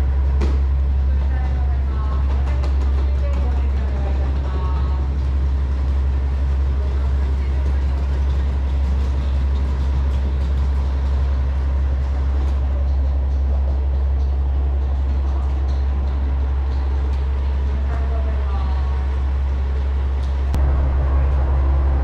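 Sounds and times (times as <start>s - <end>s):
diesel railcar engine idling: 0.0s - 22.0s.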